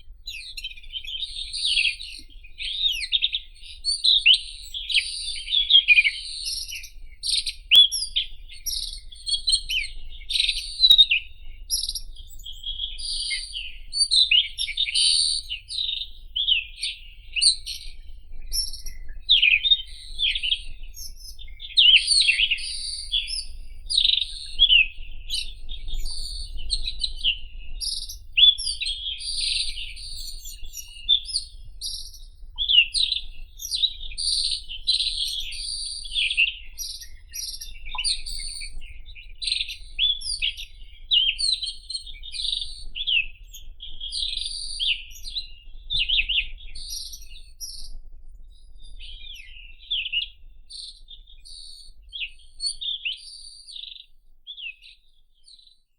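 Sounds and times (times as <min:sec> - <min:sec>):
bird singing high-pitched notes: 0:00.2 - 0:48.0.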